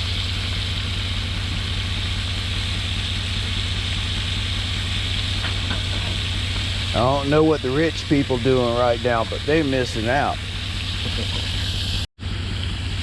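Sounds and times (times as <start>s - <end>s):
fish deep-frying in oil: 0.0s - 13.0s
low rumble: 0.0s - 13.0s.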